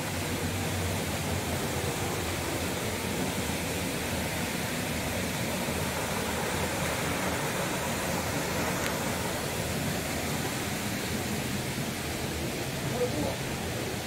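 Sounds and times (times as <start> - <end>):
small waterfall rushing: 0.0 - 14.0.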